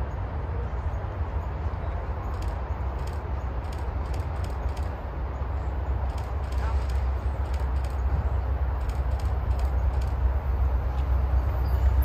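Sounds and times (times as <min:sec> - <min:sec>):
train rumble: 0:00.0 - 0:12.0
wheels clicking over rail joints: 0:02.1 - 0:12.0.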